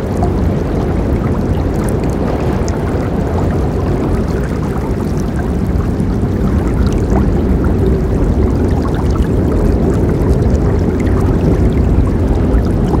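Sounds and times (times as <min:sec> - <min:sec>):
river water rushing: 0:00.0 - 0:13.0
small water splashes: 0:00.0 - 0:13.0.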